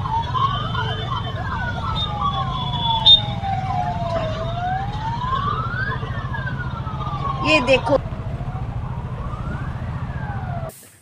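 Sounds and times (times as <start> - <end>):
siren wailing: 0.0 - 10.7
low hum of motorcycle engines: 0.0 - 10.8.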